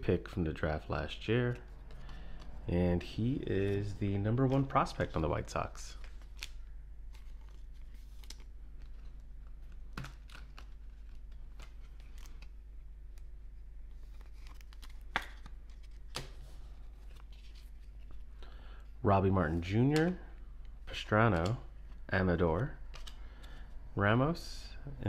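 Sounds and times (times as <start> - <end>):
steady low hum: 0.0 - 25.0
cards and plastic rustling: 0.9 - 18.9, 19.5 - 23.9.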